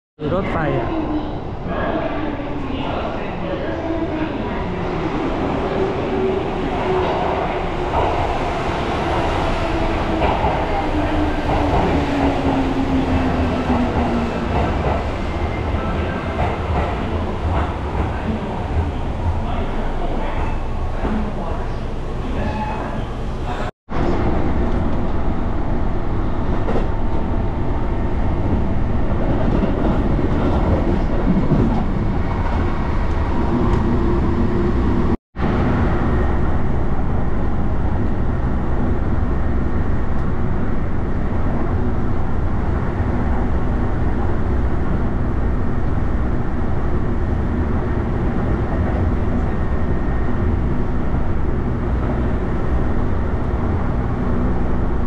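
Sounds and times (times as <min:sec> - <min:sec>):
train wheels rumbling on rail: 0:02.8 - 0:55.0.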